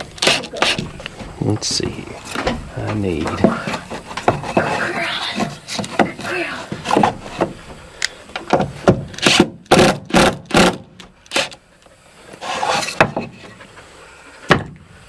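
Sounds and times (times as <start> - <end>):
wood knocking and scraping: 0.0 - 11.6, 12.3 - 13.6.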